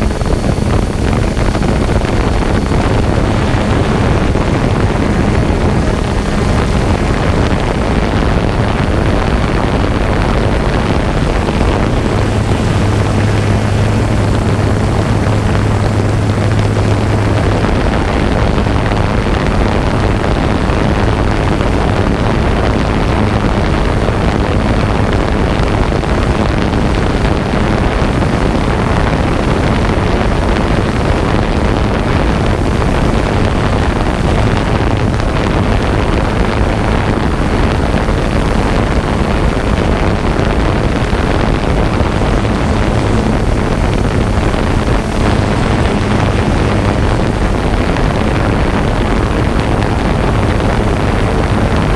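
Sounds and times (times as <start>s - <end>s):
drone propellers buzzing: 0.0s - 51.9s
low hum: 0.0s - 51.9s
wind on microphone: 0.0s - 51.9s.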